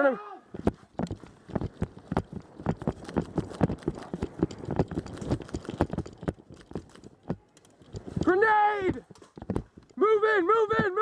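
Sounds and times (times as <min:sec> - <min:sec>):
running footfalls on hard ground: 0:00.5 - 0:09.9.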